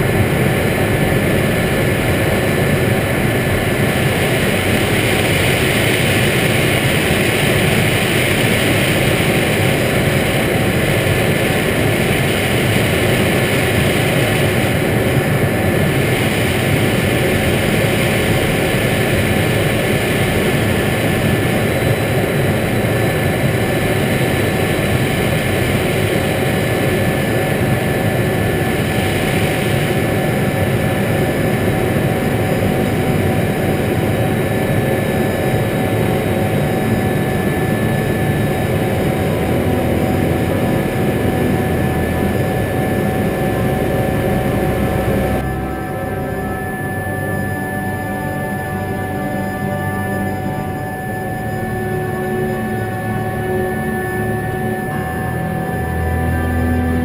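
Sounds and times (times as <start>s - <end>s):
faint constant tones: 0.0s - 57.0s
jet cockpit engine rush: 0.0s - 57.0s.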